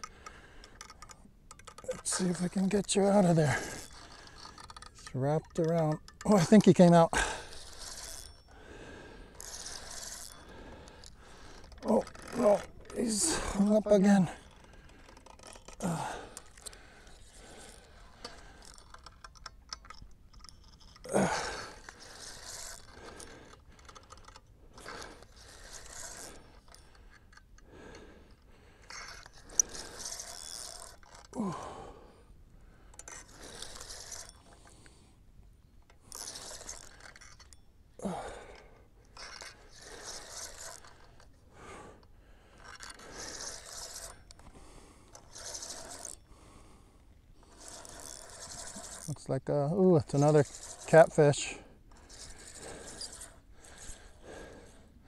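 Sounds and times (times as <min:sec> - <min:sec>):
fishing rod and reel scraping: 0:00.0 - 0:55.0.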